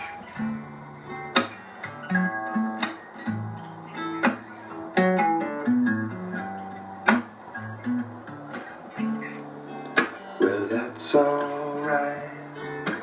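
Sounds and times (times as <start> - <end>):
guitar music over loudspeakers: 0.0 - 13.0.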